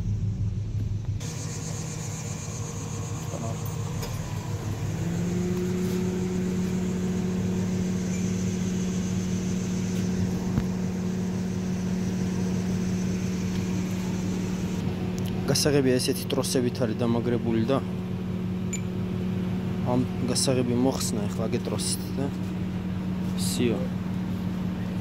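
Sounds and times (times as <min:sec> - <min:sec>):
steady low hum: 0:00.0 - 0:25.0
truck engine idling: 0:00.0 - 0:25.0.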